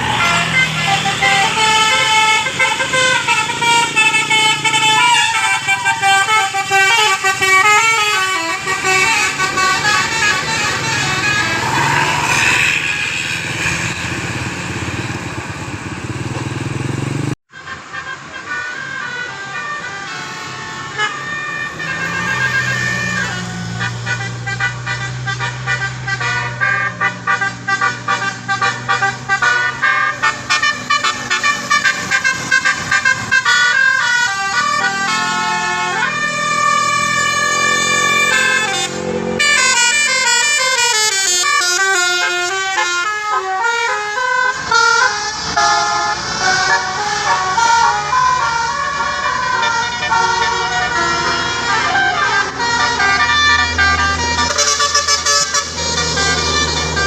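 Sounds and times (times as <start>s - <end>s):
multi-tone bus horn tunes: 0.0s - 14.5s, 17.5s - 57.0s.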